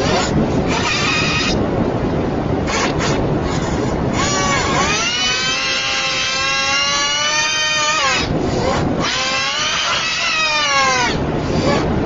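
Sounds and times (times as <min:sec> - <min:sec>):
distorted screaming: 0:00.0 - 0:01.6, 0:02.6 - 0:11.9.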